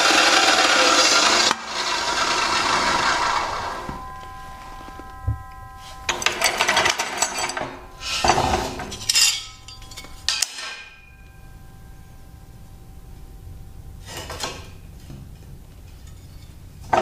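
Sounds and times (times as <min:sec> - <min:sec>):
metal tubing scraping and clanking: 0:01.0 - 0:17.0.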